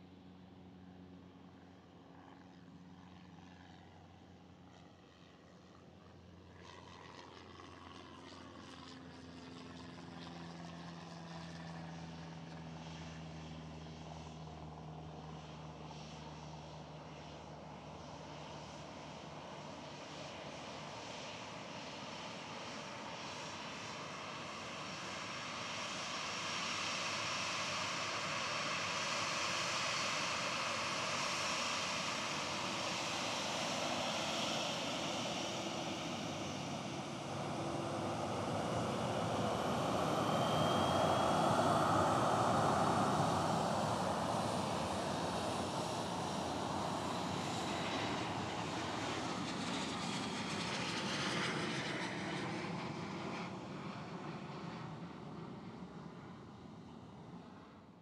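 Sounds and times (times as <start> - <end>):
jet airliner engine noise: 0.0 - 58.0
engine whine: 6.6 - 56.8.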